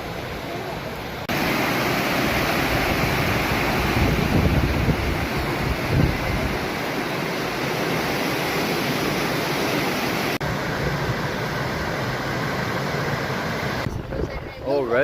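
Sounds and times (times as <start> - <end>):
river water rushing: 0.0 - 13.9.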